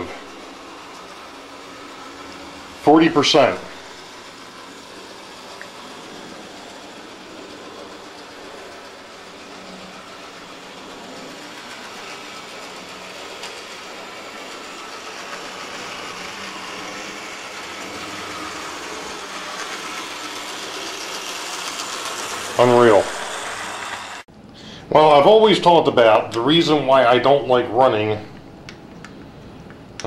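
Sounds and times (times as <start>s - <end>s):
model locomotive motor growling: 0.0s - 24.2s.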